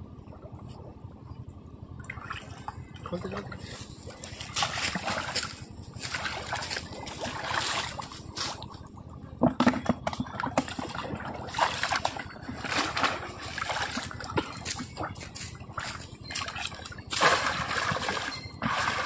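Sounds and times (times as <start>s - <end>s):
shallow water sloshing and splashing: 2.0s - 19.0s.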